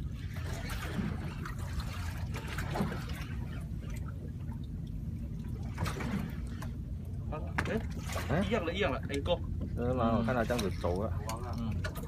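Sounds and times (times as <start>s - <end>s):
steady low rumble: 0.0s - 12.0s
water lapping against boat hull: 0.0s - 12.0s.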